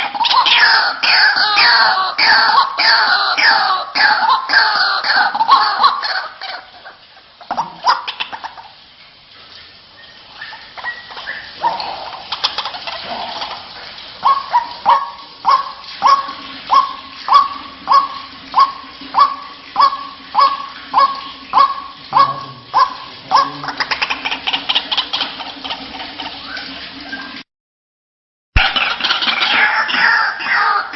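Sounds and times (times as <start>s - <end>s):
waterhen calling: 0.0s - 27.4s, 28.6s - 30.9s.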